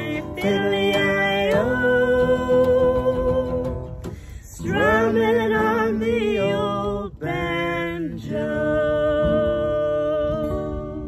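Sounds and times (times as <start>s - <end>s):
man and woman singing: 0.0s - 11.0s
strummed acoustic guitar: 0.0s - 11.0s.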